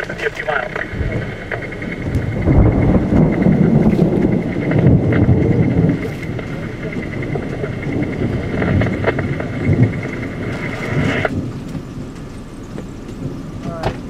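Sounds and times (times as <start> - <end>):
thunder rumble: 0.0 - 14.0.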